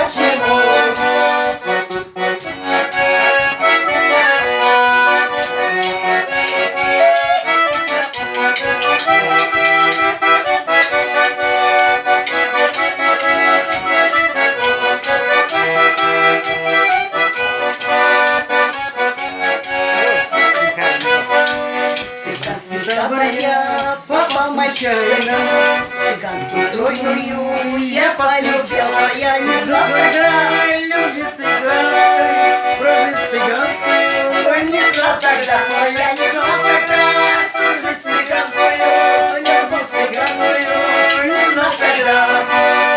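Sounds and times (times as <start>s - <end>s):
instrumental melody over a beat: 0.0s - 42.9s.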